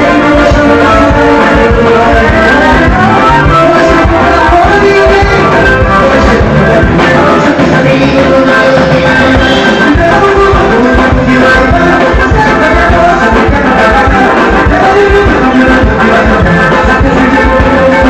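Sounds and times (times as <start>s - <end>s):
loud band music with steady beat: 0.0s - 18.0s
sung melodic notes: 0.0s - 18.0s.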